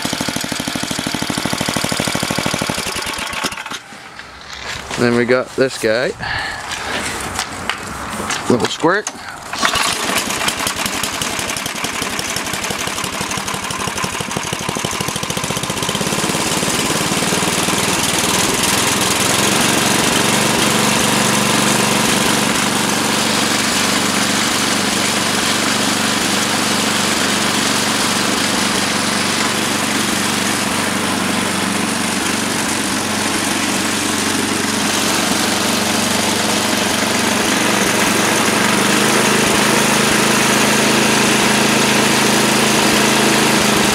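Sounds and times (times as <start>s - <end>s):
snowblower engine starting and running: 0.0s - 5.3s, 6.2s - 43.9s.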